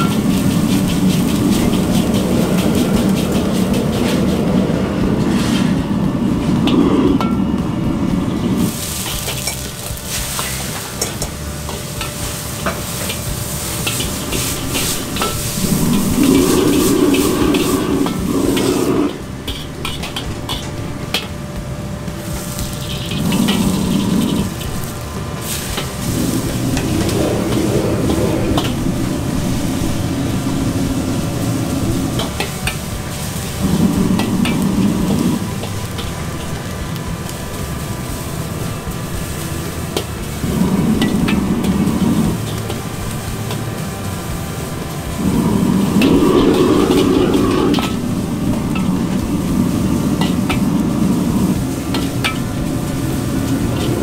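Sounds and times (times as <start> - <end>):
deep rumble of gas burner: 0.0 - 54.0
metal ladle scraping wok: 0.0 - 54.0
noodles sizzling in a wok: 0.0 - 54.0.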